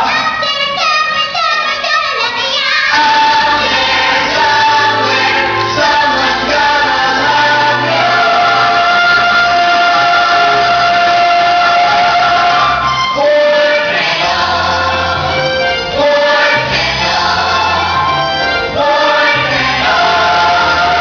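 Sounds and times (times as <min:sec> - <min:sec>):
children singing: 0:00.0 - 0:21.0
instrumental accompaniment: 0:02.9 - 0:21.0.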